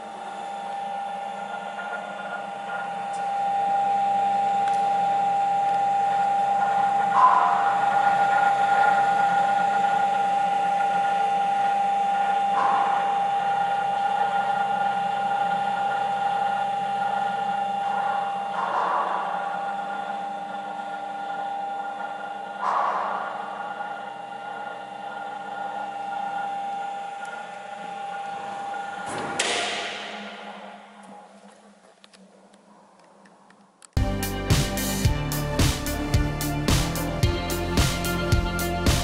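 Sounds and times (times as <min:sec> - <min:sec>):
boring machine motor whine: 0:00.0 - 0:33.1.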